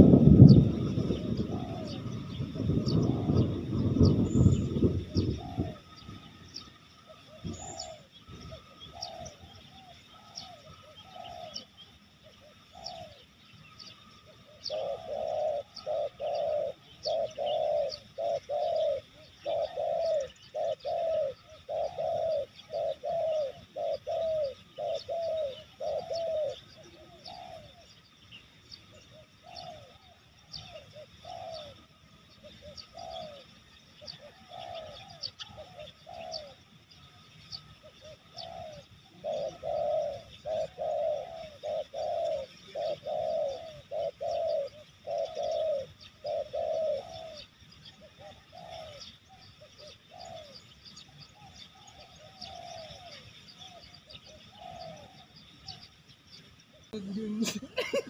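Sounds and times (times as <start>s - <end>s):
doves cooing: 0.0s - 28.2s, 28.8s - 55.9s, 56.7s - 58.0s.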